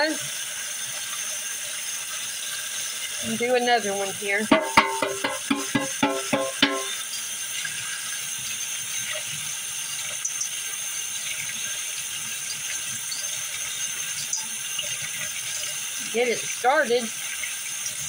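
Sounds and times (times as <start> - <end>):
tap water splashing into colander: 0.0 - 18.0.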